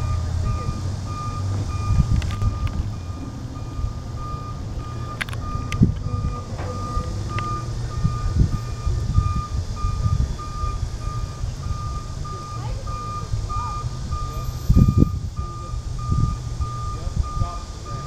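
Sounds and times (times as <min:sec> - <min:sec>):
low engine rumble: 0:00.0 - 0:18.0
truck back-up alarm beeping: 0:00.0 - 0:18.0.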